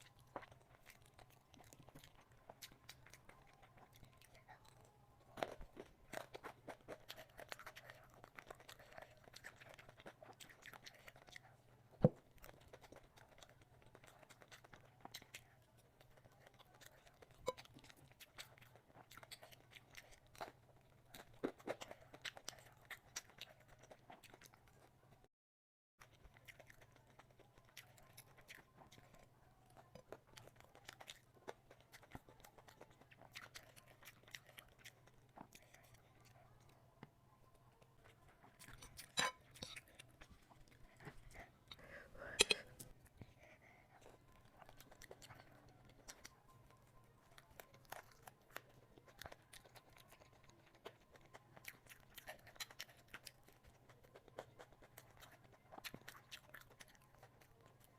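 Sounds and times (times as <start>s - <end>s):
chewing and crunching food: 0.0s - 25.3s, 26.0s - 57.9s
faint low hum: 0.0s - 25.3s, 26.0s - 57.9s.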